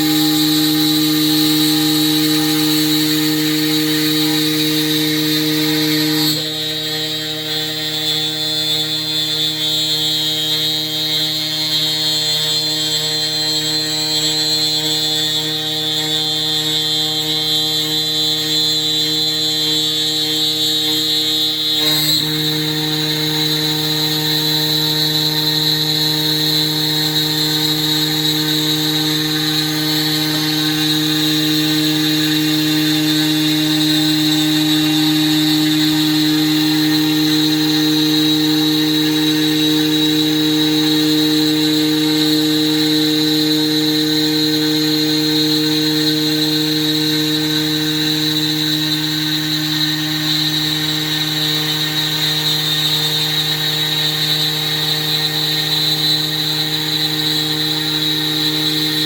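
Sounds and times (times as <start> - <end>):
router spindle whining: 0.0 - 59.0.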